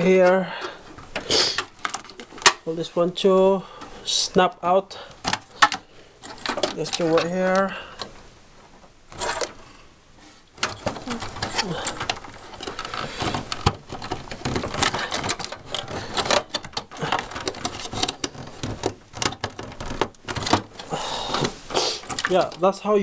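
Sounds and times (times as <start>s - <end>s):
cables and plastic connectors clicking: 0.0s - 2.7s, 4.3s - 8.2s, 10.6s - 22.8s.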